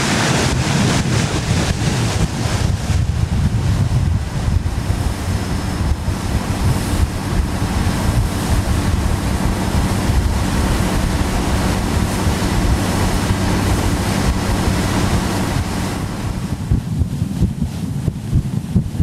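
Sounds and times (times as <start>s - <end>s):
boat engines droning: 0.0s - 16.9s
boat wake rushing: 0.0s - 19.0s
wind buffeting microphone: 0.0s - 19.0s.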